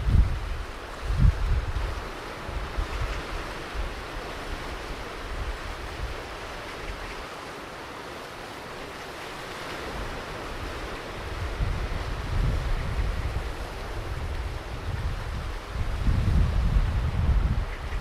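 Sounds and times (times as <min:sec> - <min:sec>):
wind buffeting microphone: 0:00.0 - 0:07.2, 0:09.7 - 0:18.0
ocean surf washing on beach: 0:00.0 - 0:18.0.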